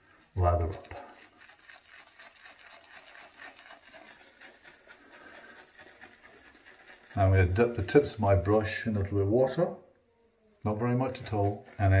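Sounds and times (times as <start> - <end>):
shaving brush swishing in soap: 0.0 - 9.2, 10.7 - 12.0.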